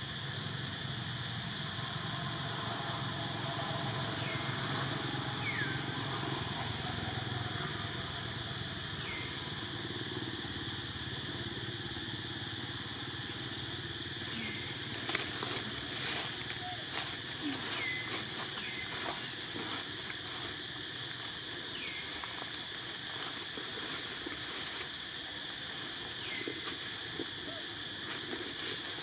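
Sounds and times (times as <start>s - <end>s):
low engine-like rumble: 0.0s - 29.0s
steady high drone: 1.2s - 27.7s.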